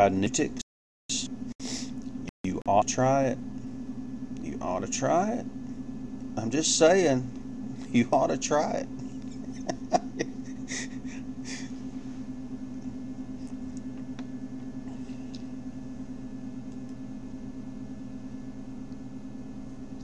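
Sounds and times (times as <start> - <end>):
low hum of held tones: 0.0 - 20.0.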